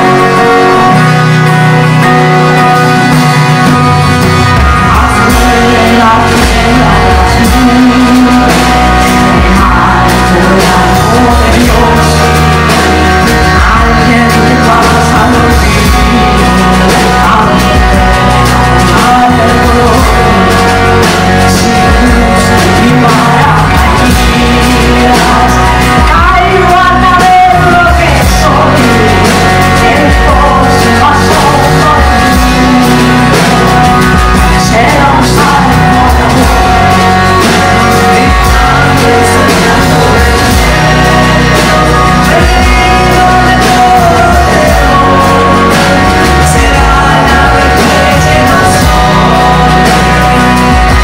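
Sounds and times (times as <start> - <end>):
live band playing: 0.0 - 51.0
person singing: 0.0 - 51.0.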